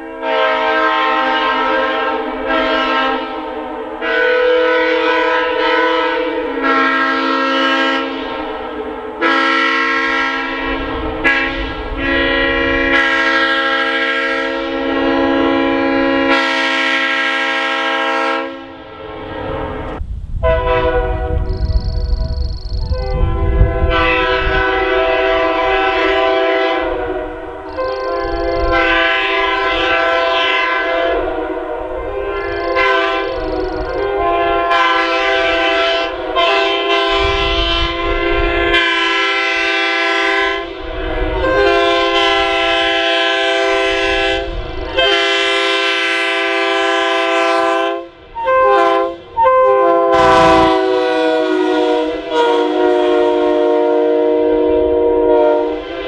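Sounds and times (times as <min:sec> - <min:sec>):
locomotive air horn chord: 0:00.0 - 0:56.0.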